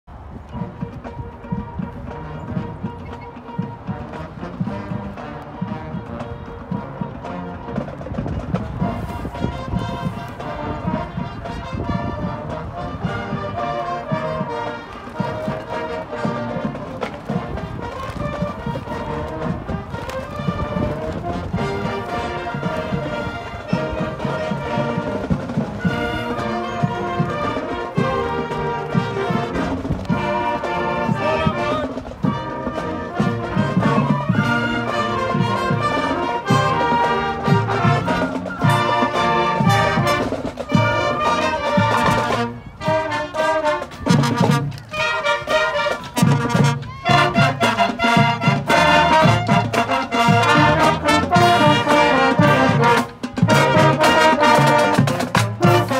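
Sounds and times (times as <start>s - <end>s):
marching band playing: 0.1s - 55.9s.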